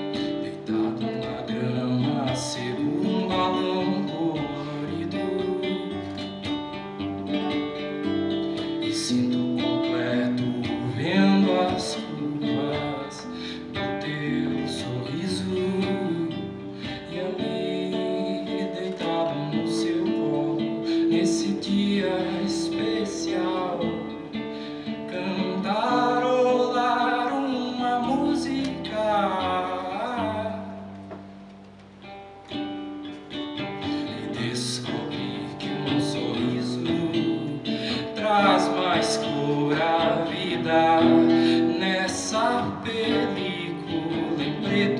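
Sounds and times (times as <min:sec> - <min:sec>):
person singing: 0:00.0 - 0:31.2, 0:33.3 - 0:44.9
acoustic guitar strummed and plucked: 0:00.0 - 0:44.9.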